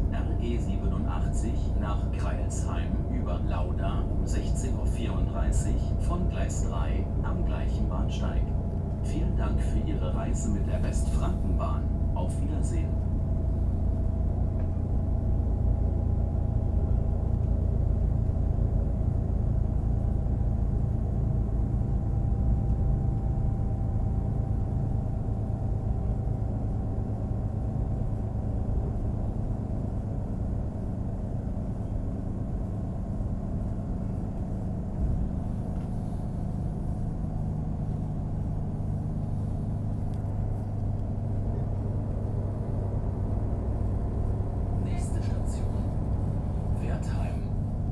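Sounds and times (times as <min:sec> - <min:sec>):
diesel railcar rumble: 0:00.0 - 0:47.9.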